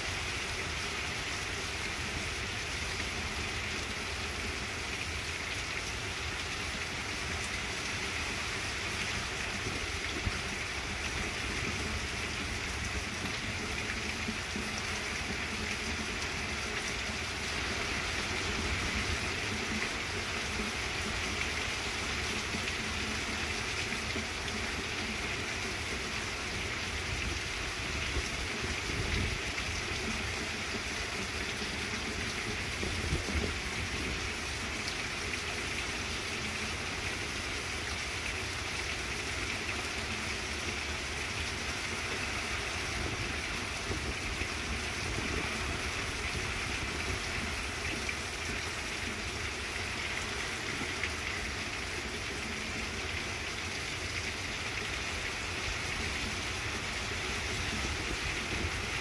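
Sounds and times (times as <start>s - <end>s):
heavy rain on trees: 0.0s - 59.0s.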